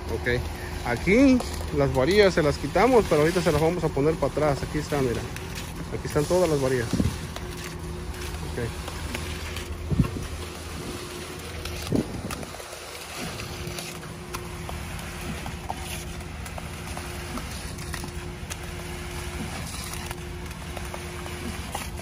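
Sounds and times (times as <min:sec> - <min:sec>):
pump engine humming: 0:00.0 - 0:22.0
wet concrete splattering: 0:00.1 - 0:22.0.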